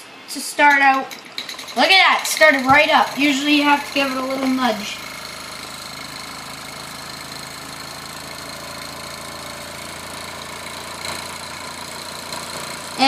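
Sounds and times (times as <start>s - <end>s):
small steam engine running: 0.8s - 13.0s.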